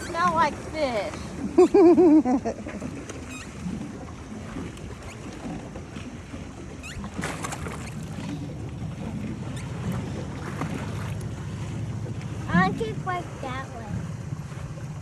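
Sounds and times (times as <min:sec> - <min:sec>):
churning and lapping water: 0:00.0 - 0:15.0
water splash: 0:00.0 - 0:15.0.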